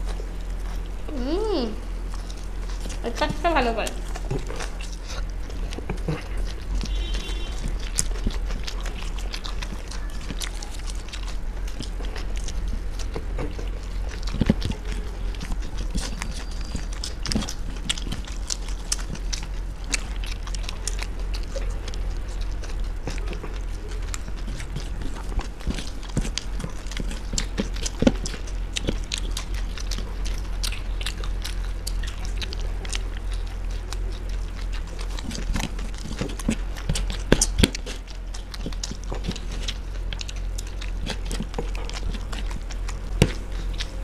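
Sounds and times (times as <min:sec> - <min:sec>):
crunching puffed rice: 0:00.0 - 0:44.0
low steady hum: 0:00.0 - 0:44.0.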